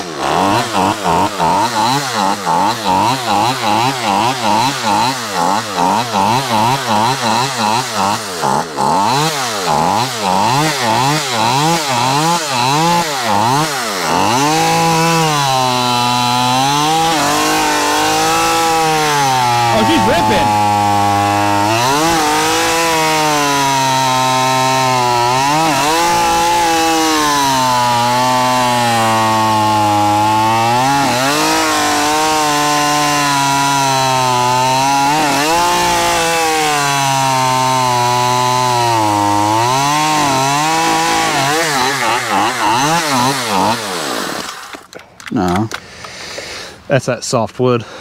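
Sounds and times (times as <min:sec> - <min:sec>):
chainsaw cutting through log: 0:00.0 - 0:45.7.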